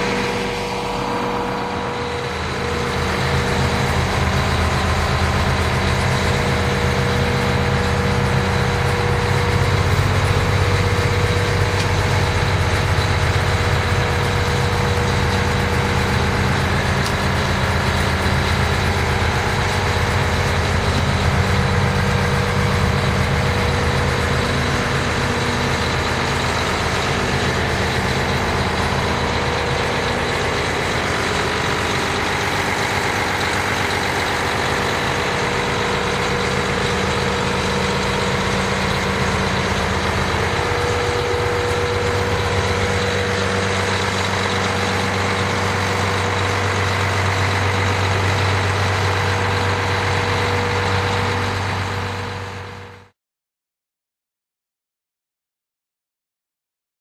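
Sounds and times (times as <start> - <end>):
diesel truck engine idling: 0.0 - 53.1.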